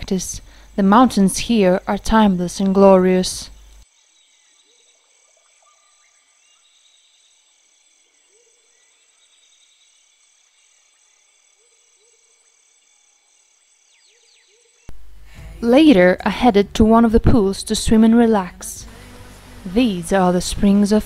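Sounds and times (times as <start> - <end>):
insect pulsing trill: 0.0 - 21.0.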